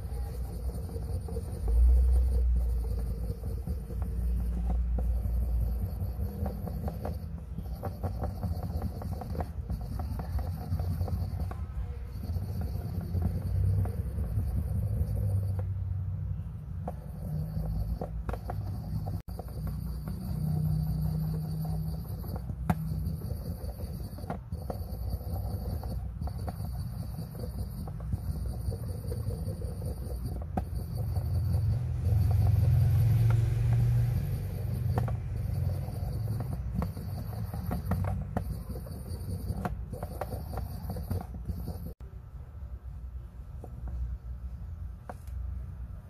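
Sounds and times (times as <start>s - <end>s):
stick scrubbing low rumble: 0.0s - 42.1s.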